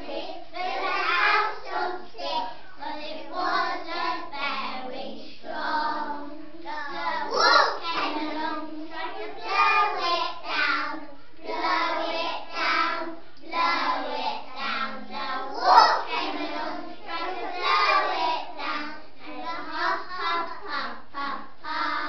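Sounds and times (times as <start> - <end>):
children singing in unison: 0.0 - 22.0.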